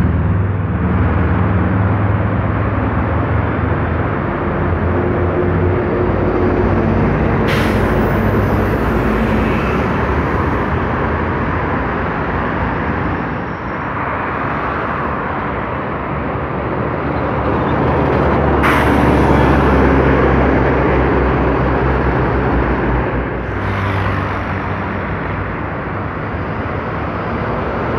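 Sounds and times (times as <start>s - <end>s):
bus engine passing close: 0.0s - 27.9s
heavy road traffic: 0.0s - 27.9s.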